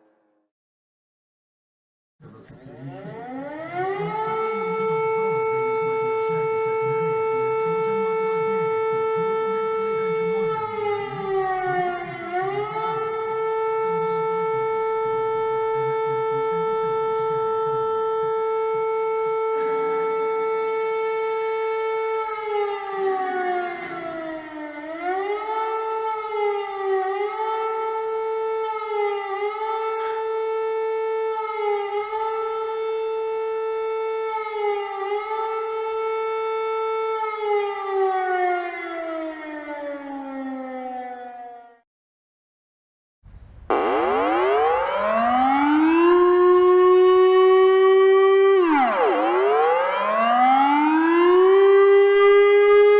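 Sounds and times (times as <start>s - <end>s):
civil defense warning siren: 0.0s - 0.5s, 2.3s - 41.8s, 43.7s - 52.9s.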